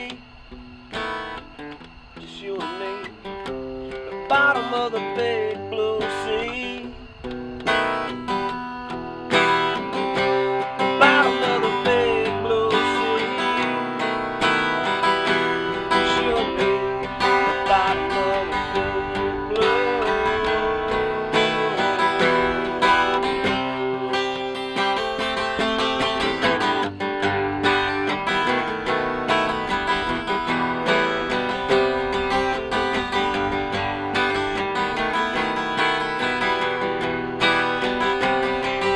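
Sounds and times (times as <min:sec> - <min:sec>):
acoustic guitars strumming: 0:00.0 - 0:38.9.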